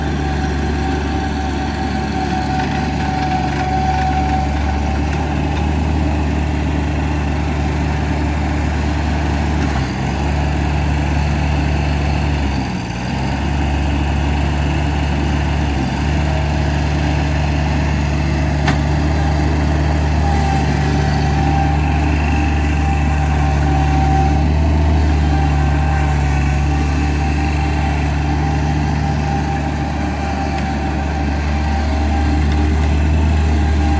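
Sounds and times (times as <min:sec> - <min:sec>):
loader diesel engine running: 0:00.0 - 0:33.9.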